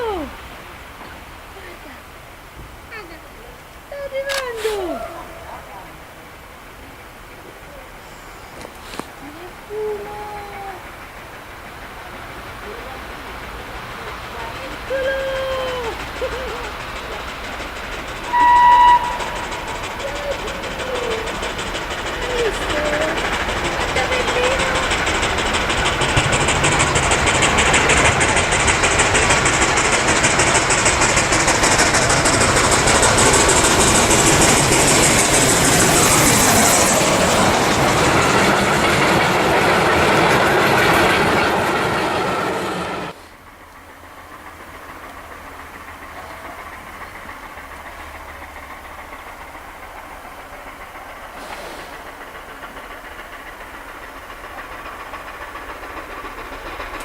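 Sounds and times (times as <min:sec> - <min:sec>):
steam hissing: 0:00.0 - 0:57.0
train wheels clattering: 0:00.0 - 0:57.0.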